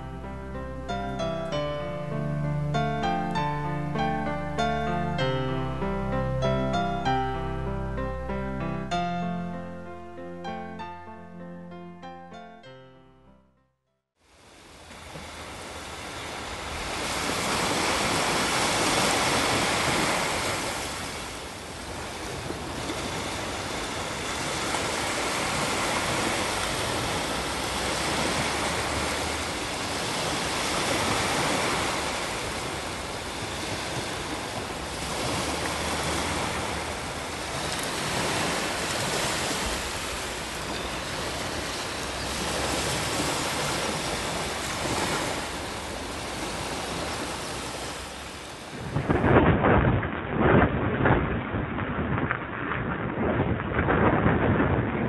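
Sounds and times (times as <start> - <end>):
ocean surf on sand beach: 0.0 - 12.4, 14.2 - 55.0.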